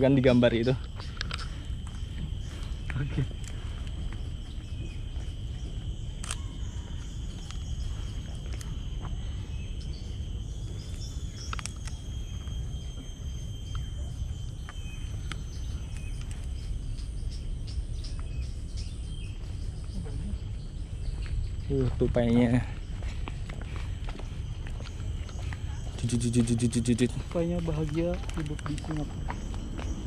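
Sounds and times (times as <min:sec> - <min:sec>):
constant low rumble: 0:00.0 - 0:30.0
high-pitched insect drone: 0:00.0 - 0:30.0.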